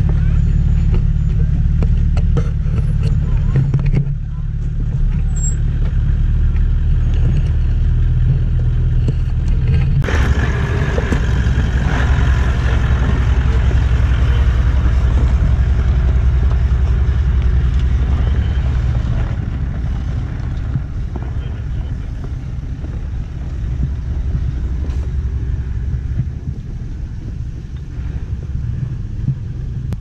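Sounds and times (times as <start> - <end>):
off-road vehicle engine low revs: 0.0 - 30.0.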